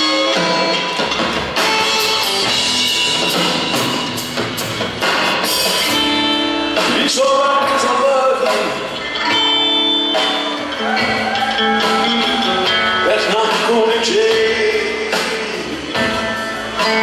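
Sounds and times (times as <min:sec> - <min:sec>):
drum kit with cymbals: 0:00.0 - 0:17.0
electric guitar: 0:00.0 - 0:17.0.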